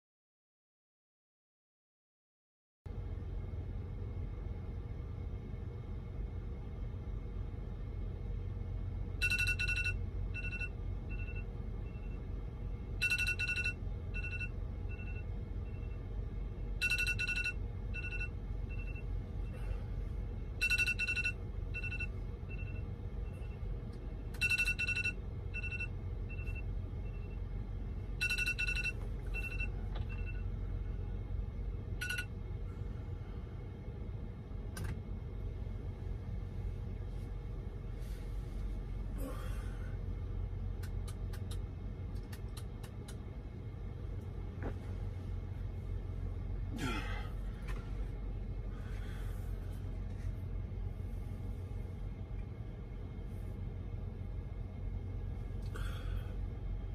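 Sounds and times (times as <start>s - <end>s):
steady low hum: 2.9s - 56.9s.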